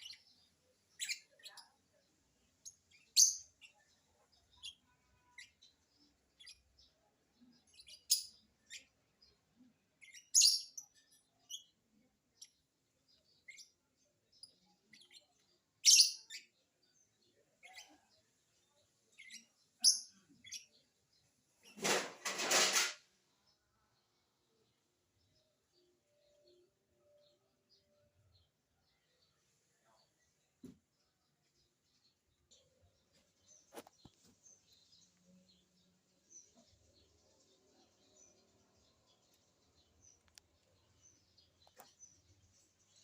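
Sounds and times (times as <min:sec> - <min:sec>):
bird chirping: 0:00.0 - 0:22.0, 0:23.3 - 0:43.0.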